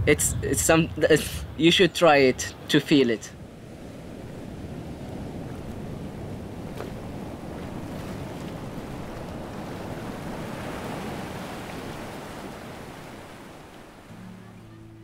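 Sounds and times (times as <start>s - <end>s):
surf washing over rocks: 0.0s - 14.7s.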